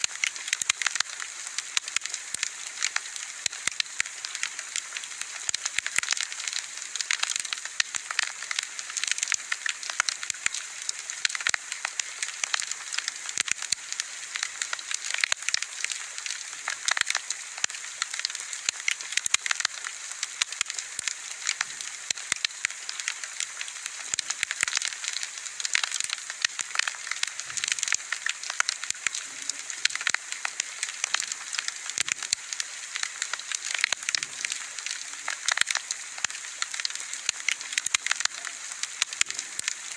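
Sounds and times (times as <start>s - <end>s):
bonfire crackling and popping: 0.0s - 39.9s
soft fire hiss: 0.0s - 39.9s.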